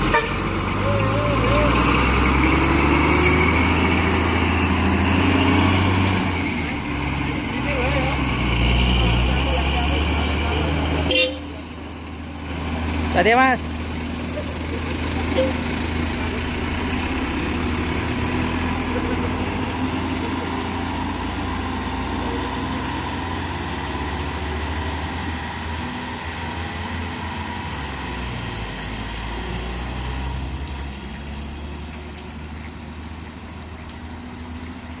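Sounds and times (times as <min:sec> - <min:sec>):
truck engines driving off: 0:00.0 - 0:35.0.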